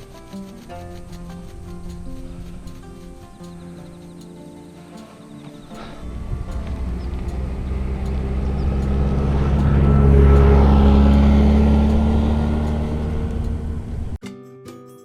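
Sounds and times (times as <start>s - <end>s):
vehicle engine passing by: 0.0s - 14.2s
acoustic guitar music: 0.0s - 15.0s.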